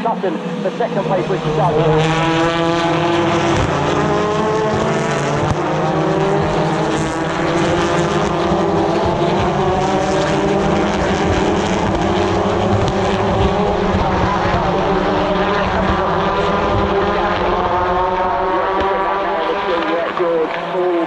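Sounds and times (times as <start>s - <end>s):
racing car engines passing: 0.0s - 20.8s.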